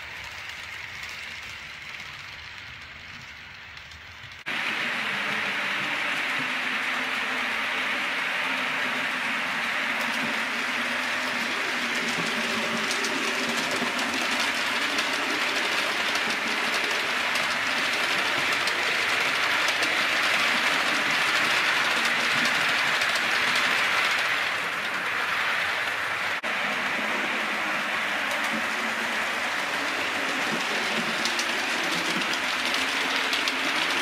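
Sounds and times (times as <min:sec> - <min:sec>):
wheels clicking over rail joints: 0:00.0 - 0:26.5, 0:27.3 - 0:34.0
model train whirring: 0:00.0 - 0:34.0.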